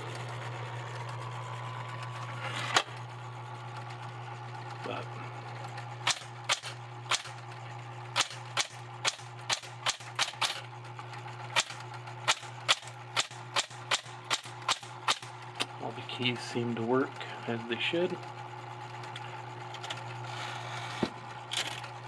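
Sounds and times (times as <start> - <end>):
typewriter motor hum: 0.0 - 22.0.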